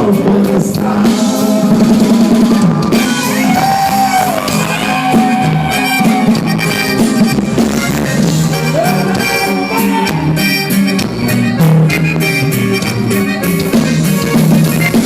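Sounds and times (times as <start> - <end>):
accordion melody: 0.0 - 15.0
bass line: 0.0 - 15.0
strummed accompaniment: 0.0 - 15.0.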